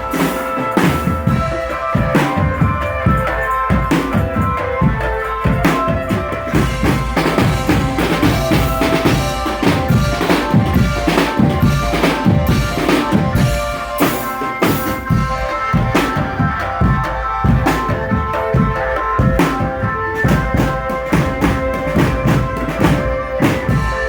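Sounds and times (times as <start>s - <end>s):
held melody: 0.0s - 24.0s
marching drum band: 0.0s - 24.0s.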